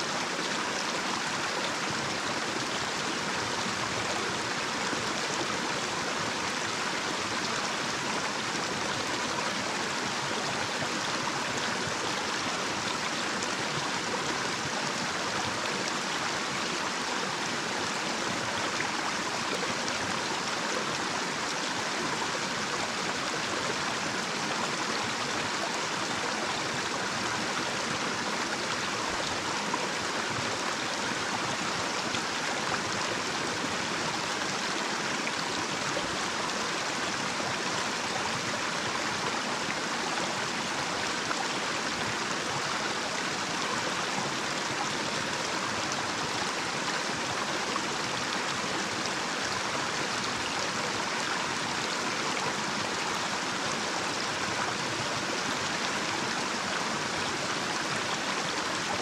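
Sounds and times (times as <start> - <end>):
stream flowing over cascade: 0.0 - 59.0.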